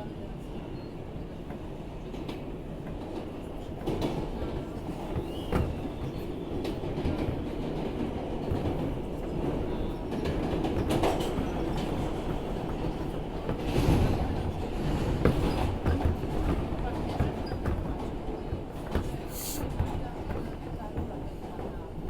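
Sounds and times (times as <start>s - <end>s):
train wheels rumbling on rails: 0.0s - 22.0s
rail joint clacks: 1.4s - 22.0s.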